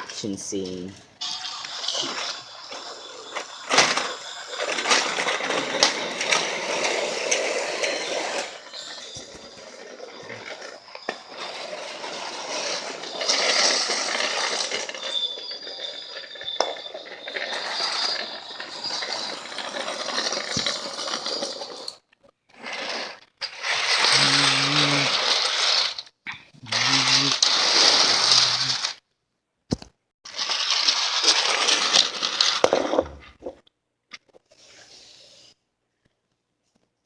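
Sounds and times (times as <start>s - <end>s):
toy train rattling on track: 0.1s - 22.0s, 22.6s - 29.0s, 30.3s - 33.0s.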